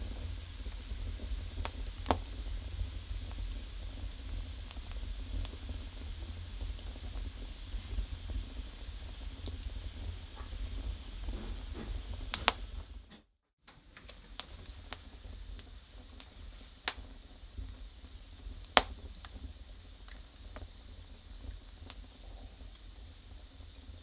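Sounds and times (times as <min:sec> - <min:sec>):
firewood crackling and popping: 0:00.0 - 0:24.0
low rumble of flames: 0:00.0 - 0:24.0.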